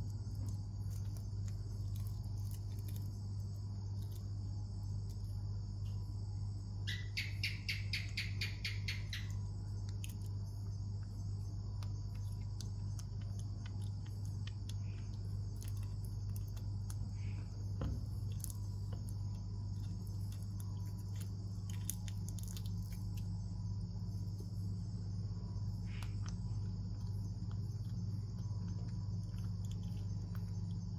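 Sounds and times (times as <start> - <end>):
small crunching clicks: 0.0 - 6.0, 9.1 - 24.8, 25.6 - 30.9
constant high whine: 0.0 - 30.9
steady low hum: 0.0 - 30.9.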